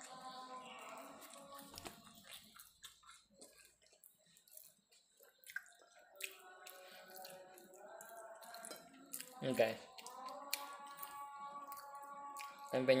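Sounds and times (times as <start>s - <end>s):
quiet music: 0.0s - 13.0s.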